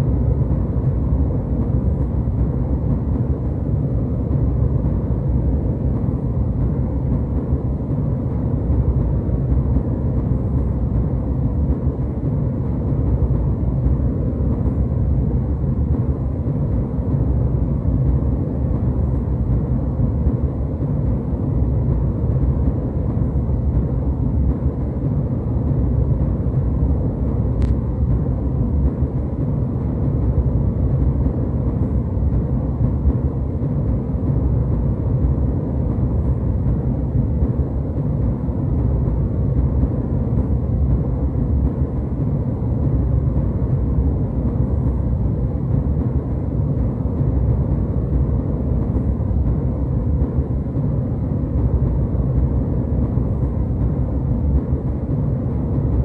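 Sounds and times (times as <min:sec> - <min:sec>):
jet airliner cabin drone: 0:00.0 - 0:56.0.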